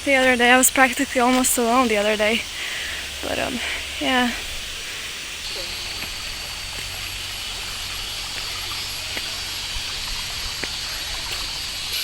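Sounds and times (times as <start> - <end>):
high steady whine: 0.0 - 12.0
waterfall rushing: 0.0 - 12.0.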